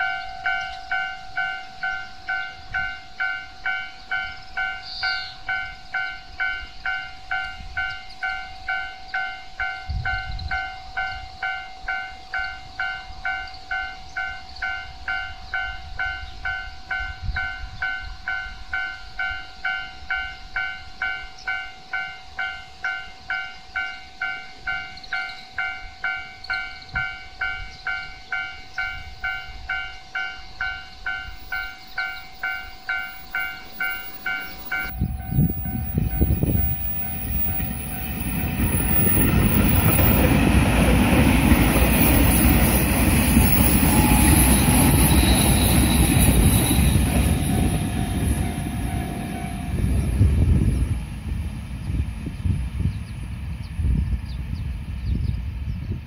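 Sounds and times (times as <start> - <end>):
level-crossing warning bell: 0.0 - 52.6
train passing with rail rumble: 0.0 - 56.0.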